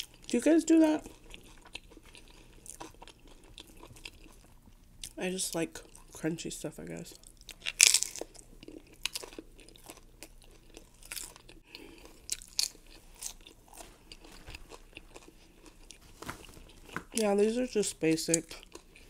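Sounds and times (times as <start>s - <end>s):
chewing crunchy chips: 0.0s - 6.2s, 7.1s - 17.3s, 18.2s - 19.0s.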